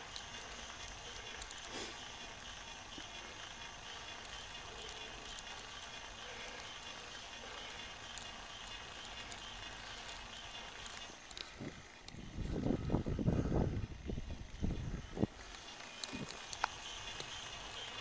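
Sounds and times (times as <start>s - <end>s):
bicycle tyres on rough asphalt: 0.0s - 18.0s
faint ticks and rattles: 0.0s - 18.0s.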